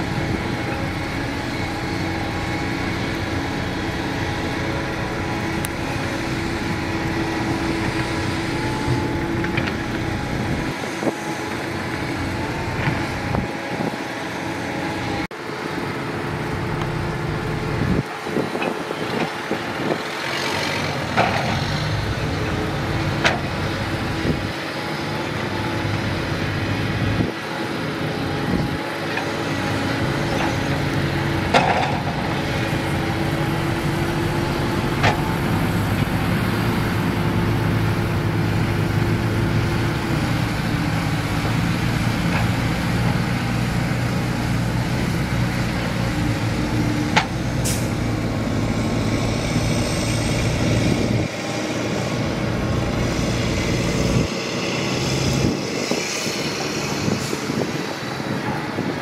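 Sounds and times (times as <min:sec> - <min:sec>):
diesel truck engines running: 0:00.0 - 0:59.0.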